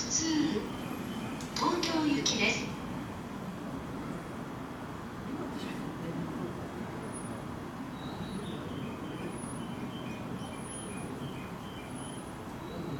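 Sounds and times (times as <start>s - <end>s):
low rumble of running train: 0.0s - 12.9s.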